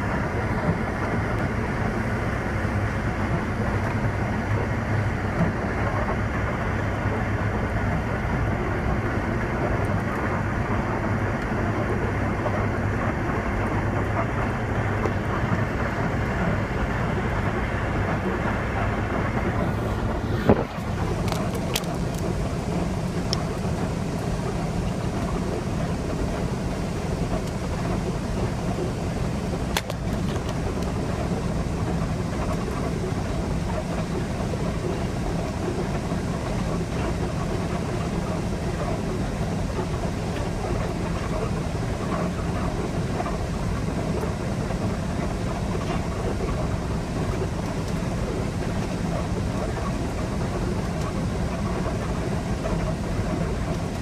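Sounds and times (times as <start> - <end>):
truck diesel engine rumbling: 0.0 - 54.0.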